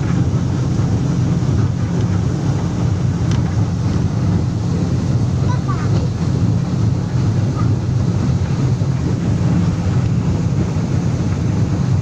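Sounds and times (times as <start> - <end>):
speedboat engines droning: 0.0 - 12.0
wind and water hiss: 0.0 - 12.0.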